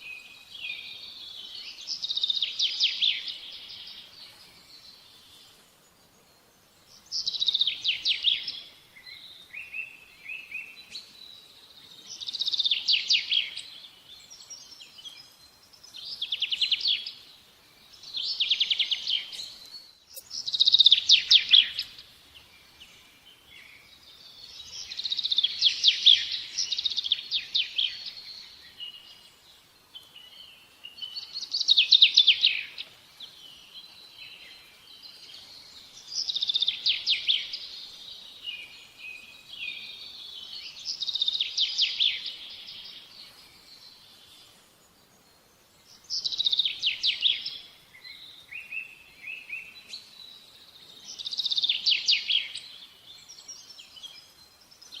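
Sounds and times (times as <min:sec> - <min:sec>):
soft bird chirps: 0:00.0 - 0:55.0.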